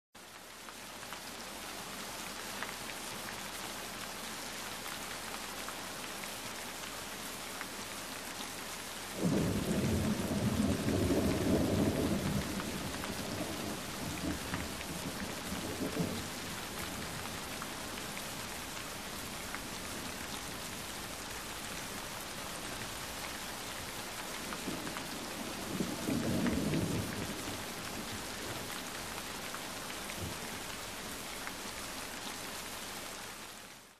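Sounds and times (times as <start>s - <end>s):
steady rain hiss: 0.2s - 33.9s.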